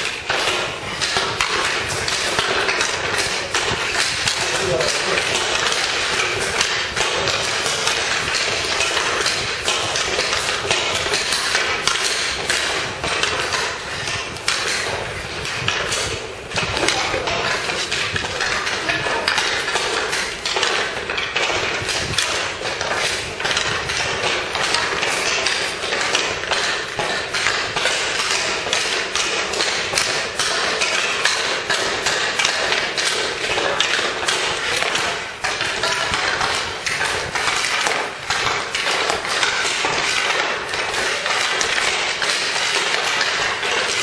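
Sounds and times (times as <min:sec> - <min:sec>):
hockey sticks and pucks clacking: 0:00.0 - 0:44.0.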